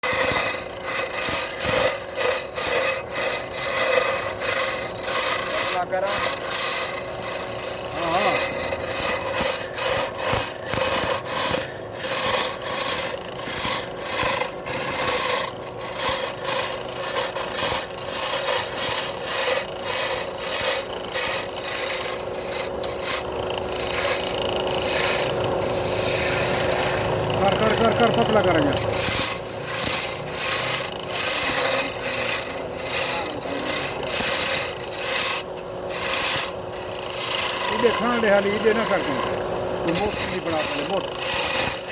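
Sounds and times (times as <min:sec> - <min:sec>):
lathe humming: 0:00.0 - 0:41.9
tool scraping spinning wood: 0:00.0 - 0:41.9.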